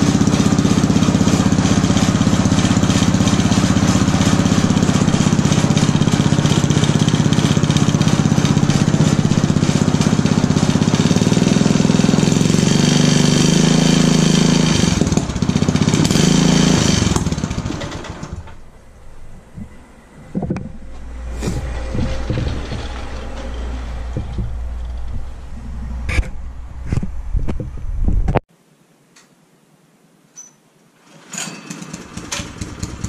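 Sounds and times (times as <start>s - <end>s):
small tractor engine running: 0.0s - 26.9s, 31.0s - 33.0s.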